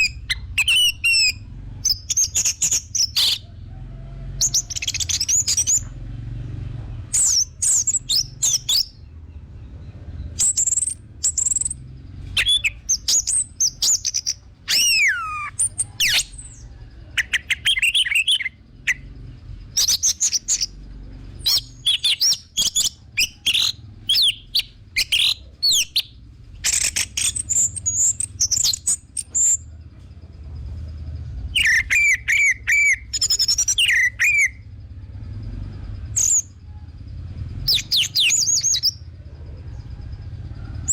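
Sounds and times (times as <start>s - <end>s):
thrush singing whistled song: 0.0s - 3.6s, 4.4s - 6.0s, 7.1s - 9.2s, 10.2s - 29.7s, 31.5s - 34.8s, 35.5s - 36.7s, 37.5s - 39.2s.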